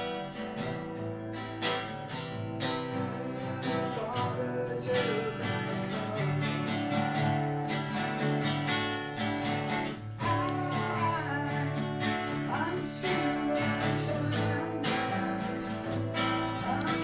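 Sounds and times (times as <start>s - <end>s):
acoustic guitar strumming: 0.0s - 17.0s
electric guitar: 0.0s - 17.0s.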